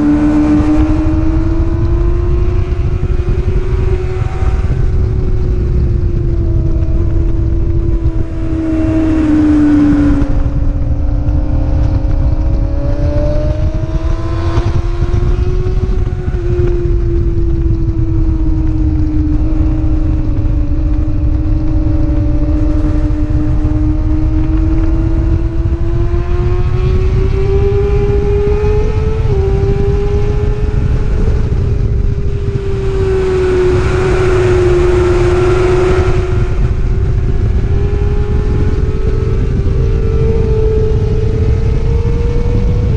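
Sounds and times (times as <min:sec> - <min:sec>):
racing motorcycle engine revving: 0:00.0 - 0:42.9
wind noise: 0:00.0 - 0:42.9.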